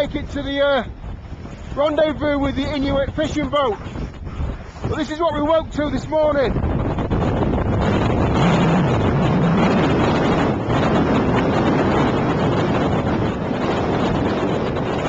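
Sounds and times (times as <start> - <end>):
loud rushing blizzard wind: 0.0 - 15.0.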